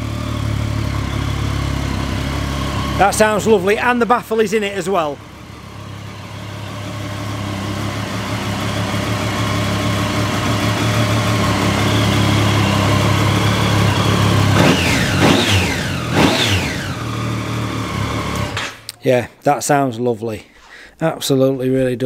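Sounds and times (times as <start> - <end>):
motorcycle engine idling: 0.0 - 18.7
motorcycle engine revving: 0.0 - 18.9.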